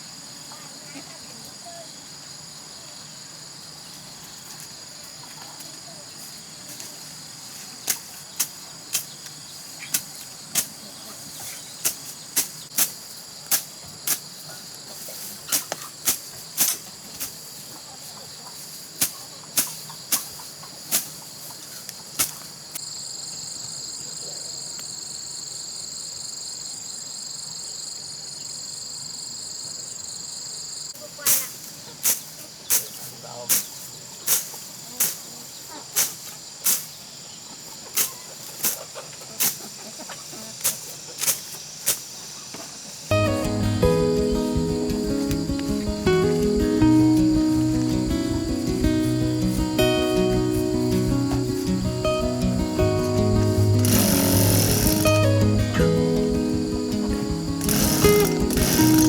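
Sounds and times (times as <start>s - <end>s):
insects chirring: 0.0s - 59.0s
pulsing insect song: 0.0s - 59.0s.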